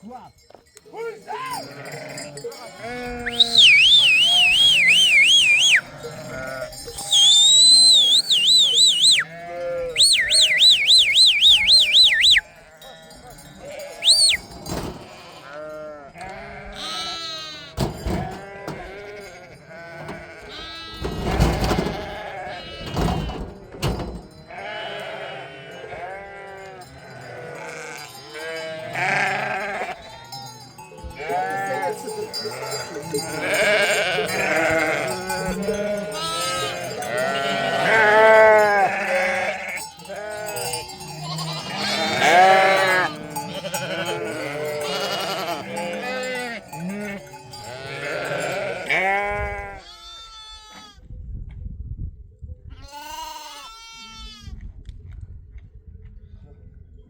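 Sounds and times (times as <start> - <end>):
sheep bleating: 1.3 - 14.4, 15.0 - 21.2, 21.8 - 23.4, 24.5 - 51.0, 52.7 - 54.5.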